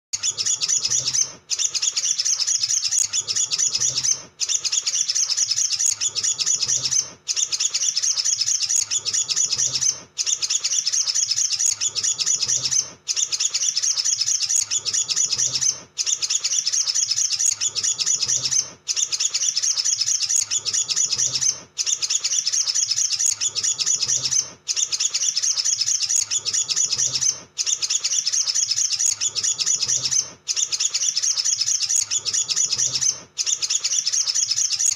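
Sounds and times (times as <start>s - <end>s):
bird singing chattering song: 0.2s - 34.9s.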